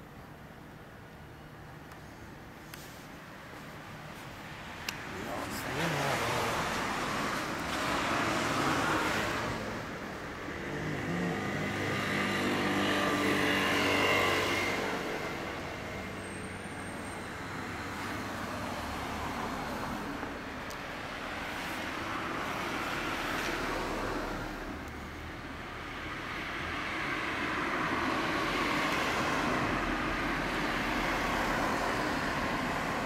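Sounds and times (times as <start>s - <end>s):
cars passing on street: 0.0s - 33.0s.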